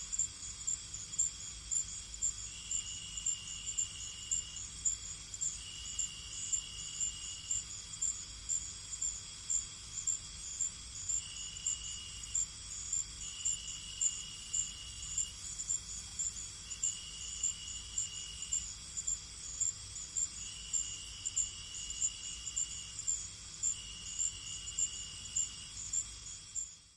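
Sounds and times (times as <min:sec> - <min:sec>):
crickets chirping: 0:00.0 - 0:26.9
high insect drone: 0:00.0 - 0:26.9
lower insect trill: 0:00.0 - 0:26.9.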